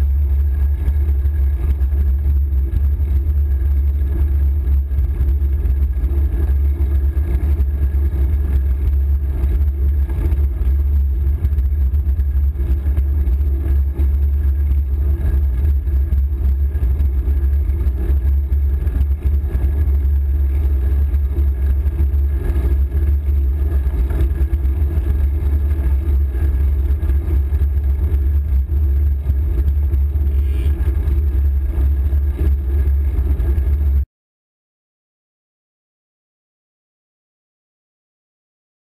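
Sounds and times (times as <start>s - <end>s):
faint steady hum: 0.0s - 34.0s
wind rumble on microphone: 0.0s - 34.0s.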